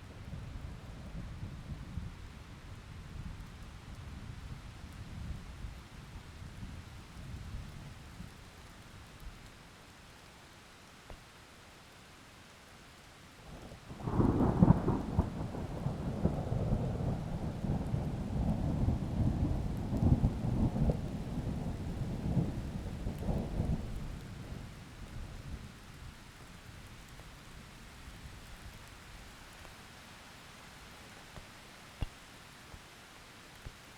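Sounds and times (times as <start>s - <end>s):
heavy rain hiss: 5.2s - 33.9s.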